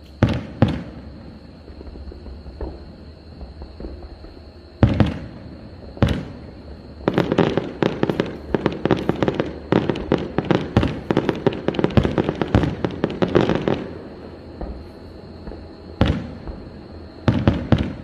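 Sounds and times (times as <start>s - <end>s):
firework crackling pops: 0.0s - 1.2s, 1.8s - 5.4s, 6.0s - 6.4s, 7.1s - 16.7s, 17.3s - 18.0s
firework booms: 0.0s - 18.0s.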